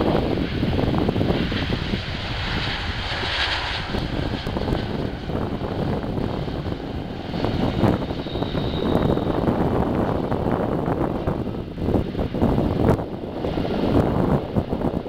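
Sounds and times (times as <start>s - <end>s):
jet engine rush: 0.0s - 15.0s
uneven low rumble: 0.0s - 15.0s.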